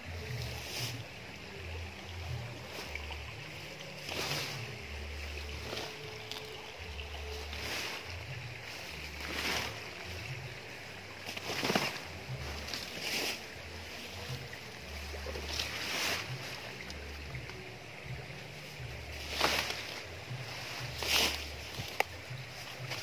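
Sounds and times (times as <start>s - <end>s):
low uneven rumble: 0.0s - 23.0s
undergrowth rustling underfoot: 0.0s - 23.0s.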